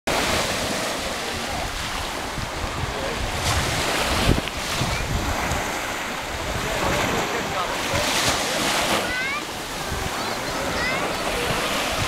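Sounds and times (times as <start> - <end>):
small waves breaking on sand: 0.1 - 12.0
wind buffeting microphone: 0.1 - 12.0.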